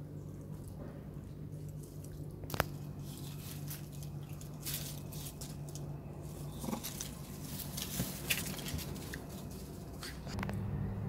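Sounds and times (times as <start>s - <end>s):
steady low hum: 0.0s - 11.0s
rustles on dry leaves: 1.5s - 10.4s.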